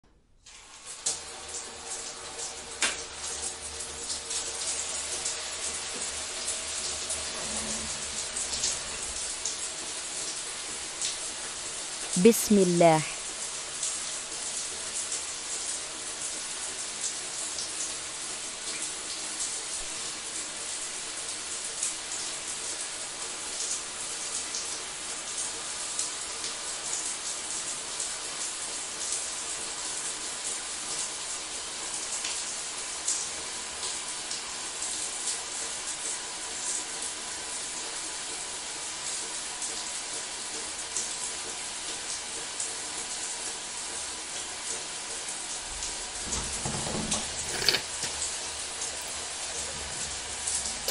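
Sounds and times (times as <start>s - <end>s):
shower water running: 0.4s - 50.9s.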